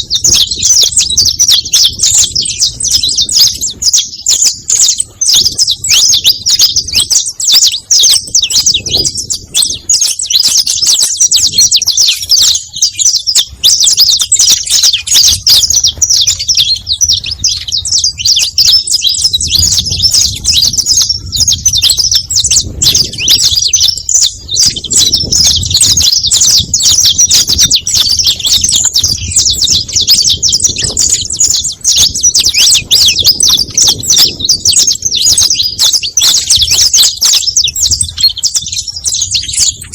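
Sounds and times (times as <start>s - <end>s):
finch chirping and trilling: 0.0s - 39.9s.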